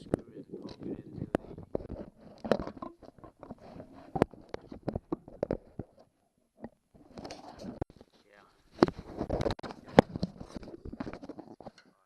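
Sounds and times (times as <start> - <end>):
low handling noise: 0.0 - 12.0.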